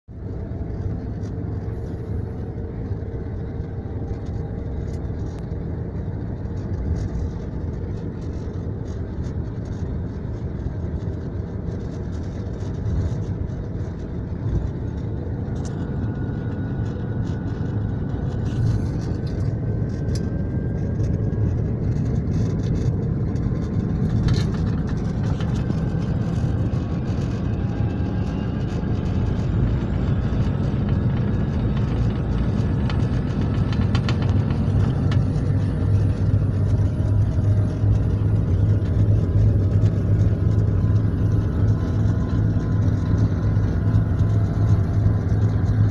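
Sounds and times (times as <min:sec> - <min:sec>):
diesel locomotive engine rumble: 0:00.0 - 0:45.9
faint rising whine: 0:00.1 - 0:45.9.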